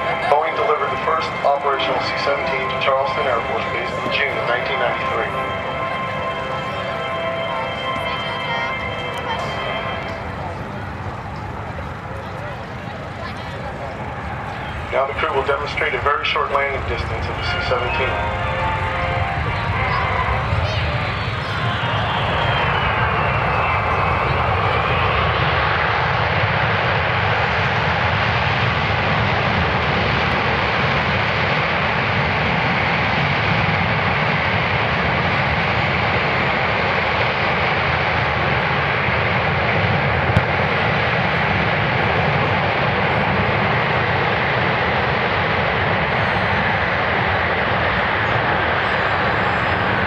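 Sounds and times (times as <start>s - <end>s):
jet engines running loud: 0.0s - 50.0s.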